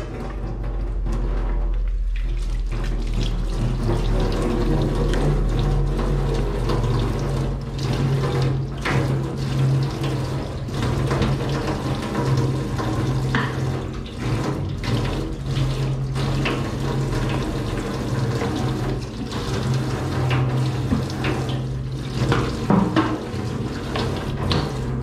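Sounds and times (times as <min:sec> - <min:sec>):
tap running into sink: 0:00.0 - 0:25.0.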